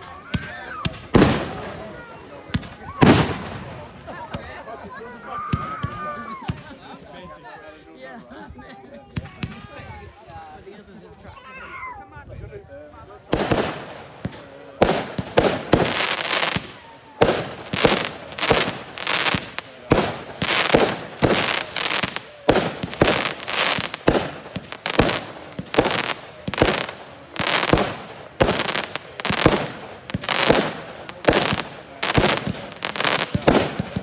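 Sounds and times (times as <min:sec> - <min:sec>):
fireworks bangs and crackling: 0:00.0 - 0:06.9, 0:09.1 - 0:10.1, 0:13.2 - 0:34.0.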